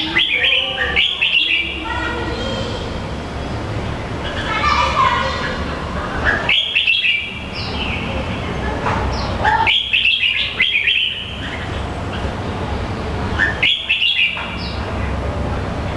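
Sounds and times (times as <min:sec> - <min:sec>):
bird chirping: 0:00.0 - 0:15.2.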